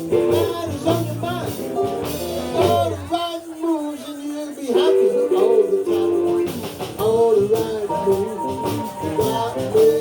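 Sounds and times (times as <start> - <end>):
live blues band playing: 0.0 - 3.3, 4.6 - 10.0.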